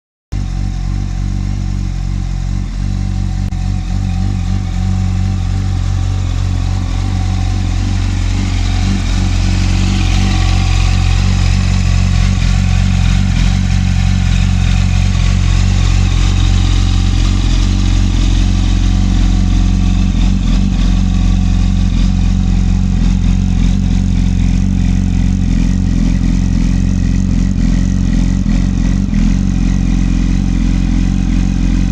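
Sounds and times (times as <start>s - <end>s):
motorcycle engine idling: 0.4s - 31.9s.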